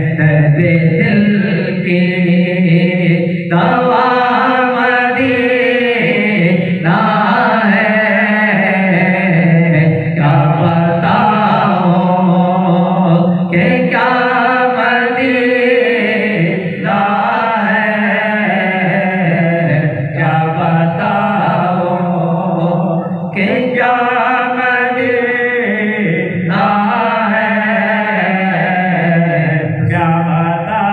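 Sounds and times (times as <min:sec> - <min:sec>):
low vocal drone: 0:00.0 - 0:30.9
man singing devotional song: 0:00.0 - 0:30.9.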